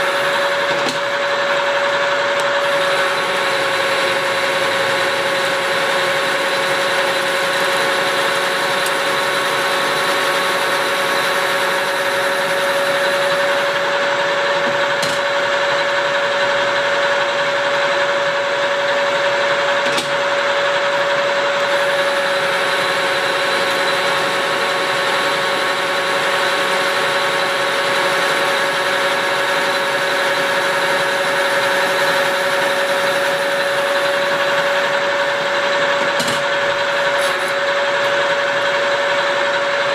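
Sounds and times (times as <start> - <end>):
lathe machine hum: 0.0 - 19.7, 20.6 - 39.9.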